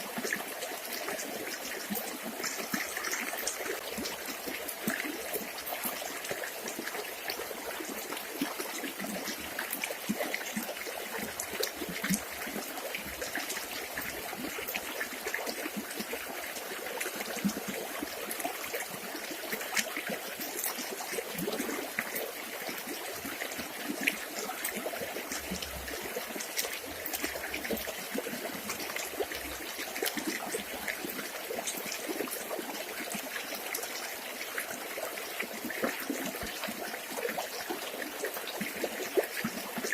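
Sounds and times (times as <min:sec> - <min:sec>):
river water babbling over stones: 0:00.0 - 0:39.9
small water splashes: 0:00.0 - 0:39.9.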